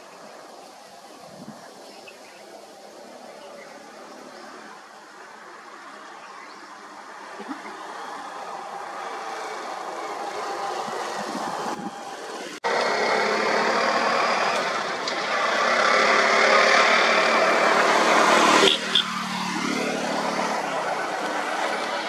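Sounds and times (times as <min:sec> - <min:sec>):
auto-rickshaw engine running: 0:00.0 - 0:22.0.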